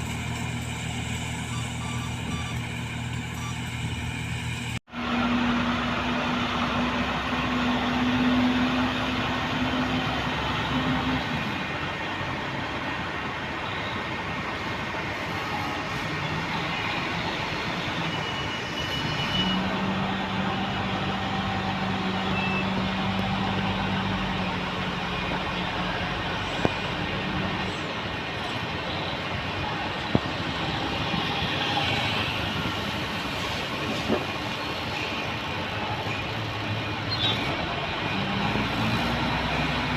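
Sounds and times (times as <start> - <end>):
heavy vehicle engine rumbling: 0.0 - 39.9.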